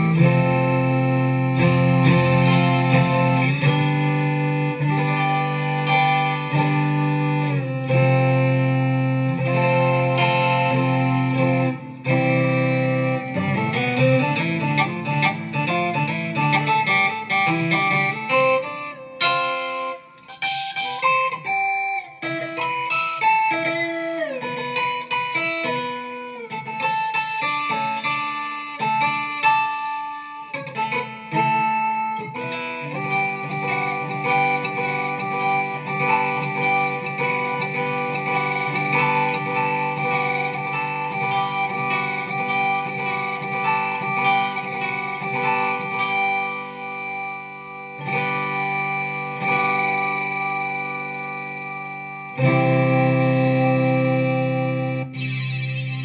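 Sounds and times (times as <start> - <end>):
synth guitar tones: 0.0 - 56.0.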